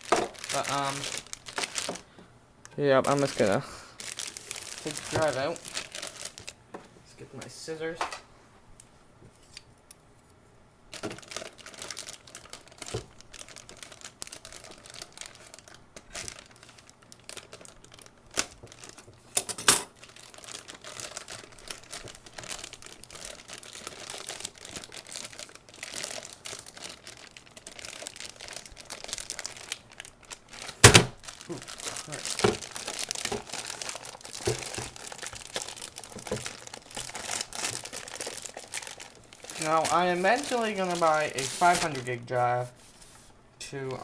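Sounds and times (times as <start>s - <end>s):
packaging crinkling and tearing: 0.0s - 2.1s, 3.0s - 6.6s, 10.9s - 43.0s.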